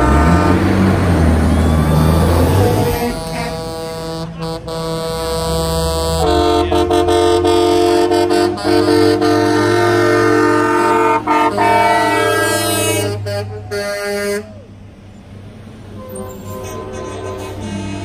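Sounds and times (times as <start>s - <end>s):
truck air horns blowing: 0.0s - 14.6s, 15.9s - 18.0s
diesel truck engines rumbling: 0.0s - 18.0s.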